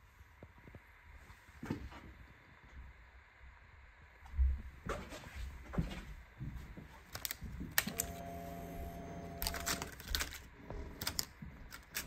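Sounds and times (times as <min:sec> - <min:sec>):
steady electric hum: 0:00.0 - 0:12.0.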